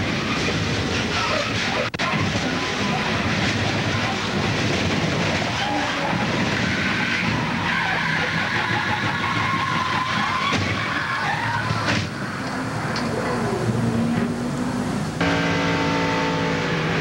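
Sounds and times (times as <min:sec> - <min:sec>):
car crash noise rush: 0:00.0 - 0:17.0
tires skidding: 0:00.0 - 0:17.0.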